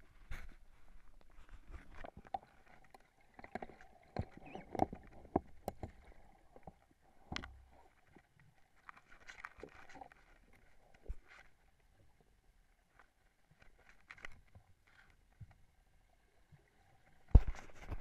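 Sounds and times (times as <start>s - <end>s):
muffled underwater clicks and knocks: 0.2s - 11.5s, 12.9s - 15.6s, 17.2s - 18.0s.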